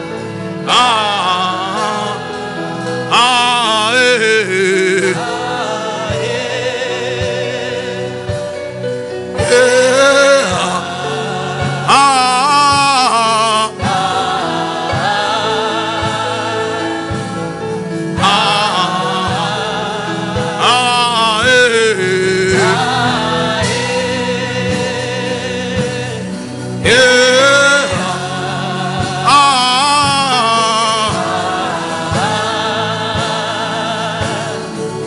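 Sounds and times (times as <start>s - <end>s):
gospel singing: 0.0s - 35.0s
regular drum beat: 0.0s - 35.0s
sustained instrumental chords: 0.0s - 35.0s.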